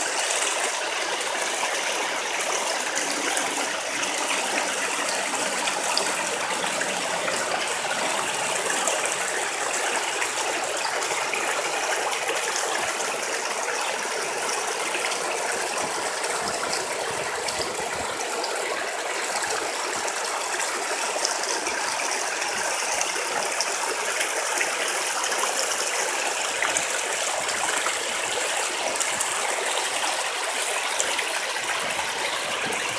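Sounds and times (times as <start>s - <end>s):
stream water flowing and splashing: 0.0s - 32.9s.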